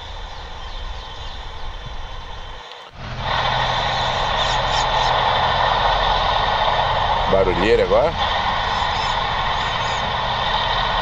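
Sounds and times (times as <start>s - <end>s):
distant train passing: 0.0s - 11.0s
small birds chirping: 0.0s - 11.0s.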